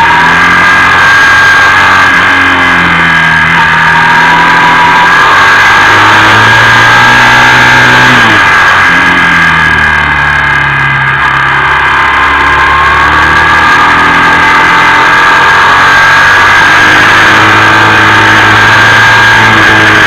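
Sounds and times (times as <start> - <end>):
high whine: 0.0 - 20.0
motorcycle engine running: 0.0 - 20.0.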